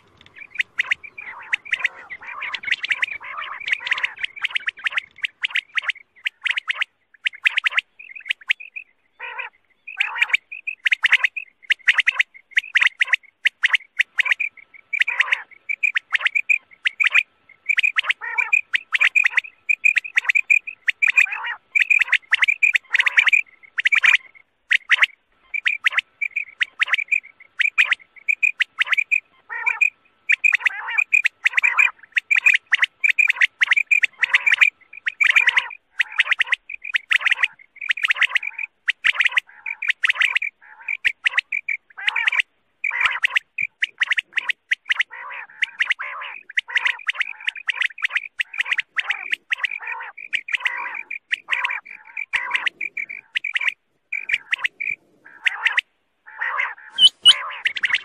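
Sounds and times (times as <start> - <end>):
recorded quail calls: 0.0 - 58.0.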